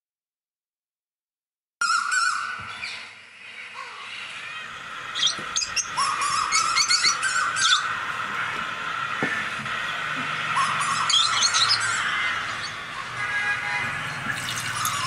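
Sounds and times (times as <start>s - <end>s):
birds chirping and trilling: 1.8s - 15.0s.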